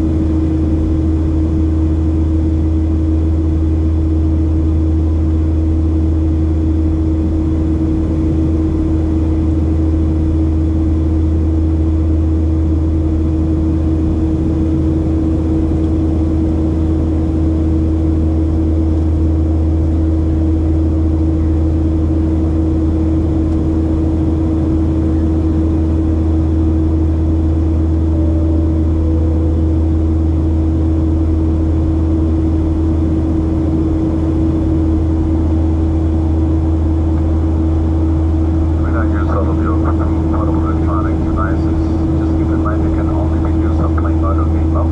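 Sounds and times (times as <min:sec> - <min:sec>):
airplane cabin engine drone: 0:00.0 - 0:44.9.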